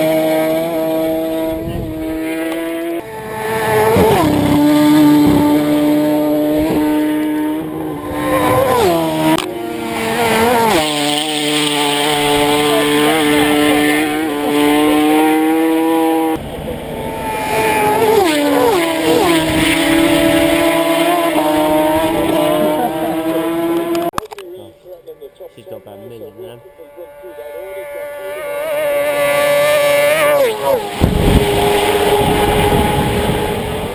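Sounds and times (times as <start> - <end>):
racing motorcycles passing by: 0.0 - 24.2, 25.0 - 33.9.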